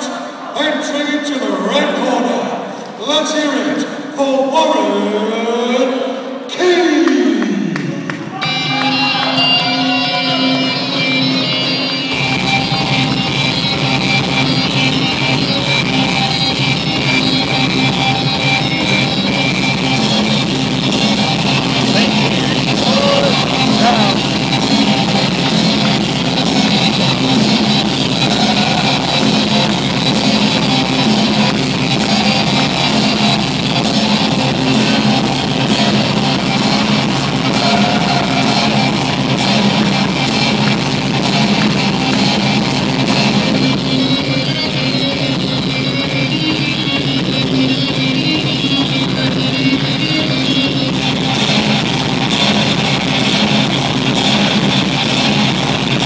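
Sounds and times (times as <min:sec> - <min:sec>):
loud rock music over sound system: 0:08.1 - 0:56.0.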